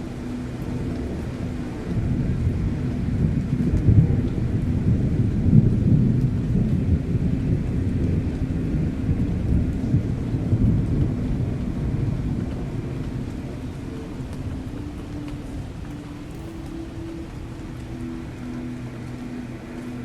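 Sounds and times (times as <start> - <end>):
rain: 0.0 - 20.0
rolling thunder: 0.0 - 20.0.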